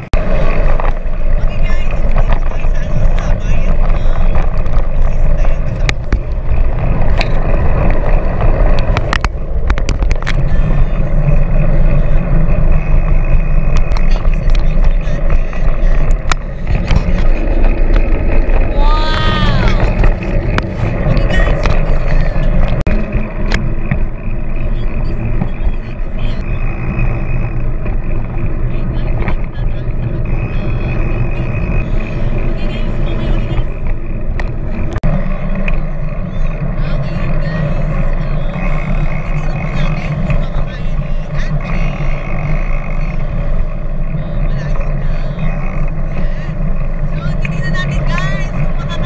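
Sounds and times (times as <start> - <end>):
rolling road noise: 0.0 - 49.0
wind rumble on microphone: 0.0 - 49.0.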